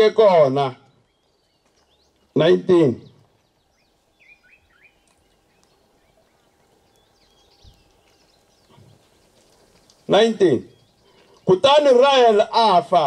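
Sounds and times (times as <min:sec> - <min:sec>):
faint bird chirps: 0:00.7 - 0:11.6.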